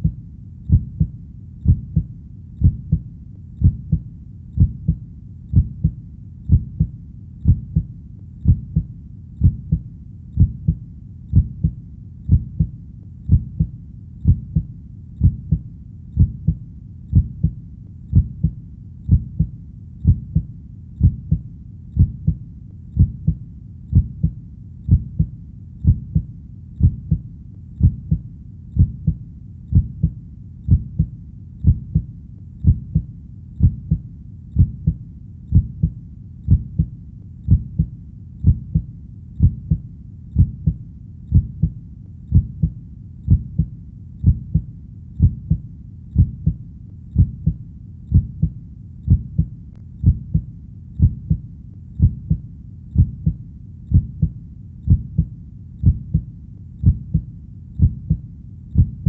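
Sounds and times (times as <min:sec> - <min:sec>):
heartbeat thumps: 0:00.0 - 0:22.4, 0:23.0 - 0:59.0.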